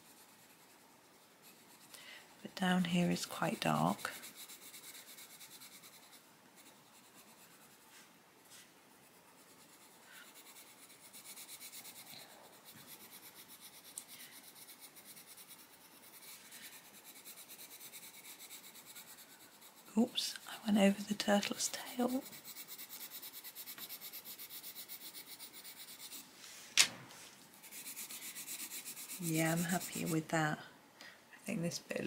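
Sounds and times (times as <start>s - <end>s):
coloured pencil scratching paper: 0.0s - 1.9s, 2.5s - 26.3s, 27.6s - 30.3s.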